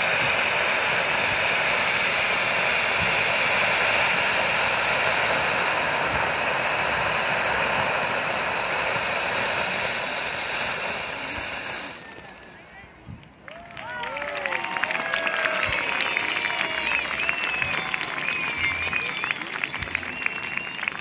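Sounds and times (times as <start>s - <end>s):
firework fountains hissing: 0.0s - 13.4s, 14.0s - 21.0s.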